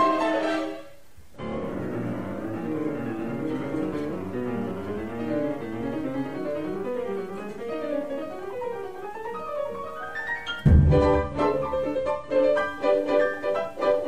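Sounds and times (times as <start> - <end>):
flowing piano music: 0.0 - 14.0.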